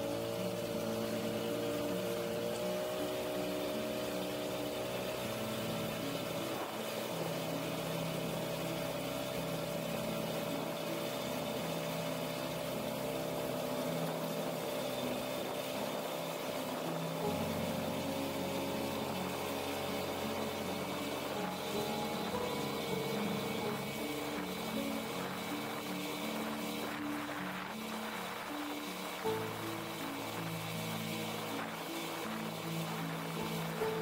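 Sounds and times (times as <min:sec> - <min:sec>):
outboard motor running: 0:00.0 - 0:34.0
water rushing along hull: 0:00.0 - 0:34.0.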